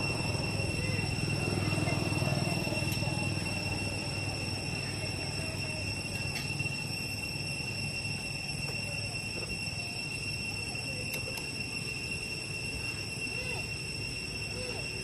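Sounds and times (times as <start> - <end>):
high-pitched drone: 0.0 - 15.0.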